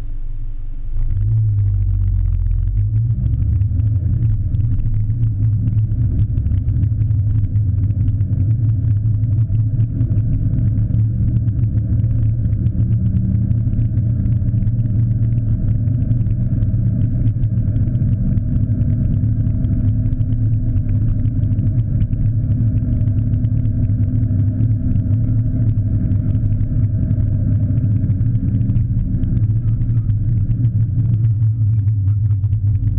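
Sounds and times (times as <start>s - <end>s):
muffled car driving rumble: 0.0s - 32.9s.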